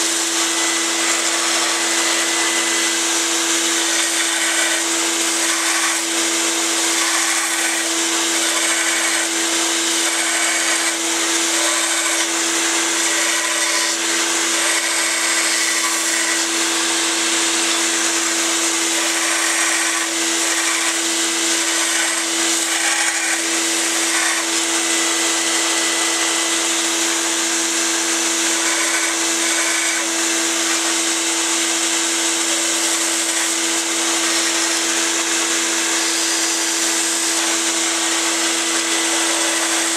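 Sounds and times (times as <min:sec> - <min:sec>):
belt sander grinding metal: 0:00.0 - 0:39.9
shop vacuum running: 0:00.0 - 0:39.9.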